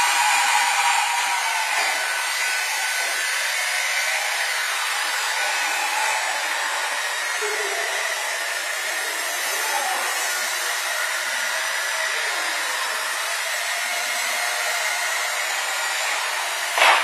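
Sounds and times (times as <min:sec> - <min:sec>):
rc helicopter rotor whirring: 0:00.0 - 0:17.0.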